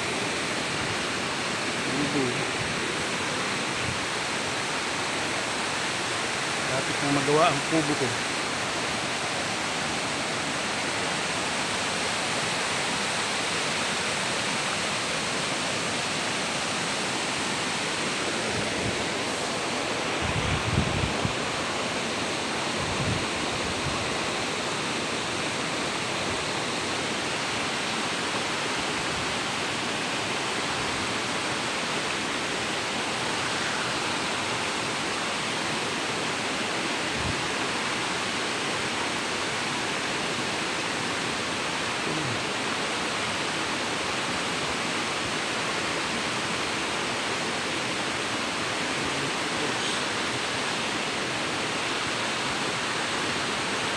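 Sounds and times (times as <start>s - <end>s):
stream rushing over stones: 0.0s - 53.9s.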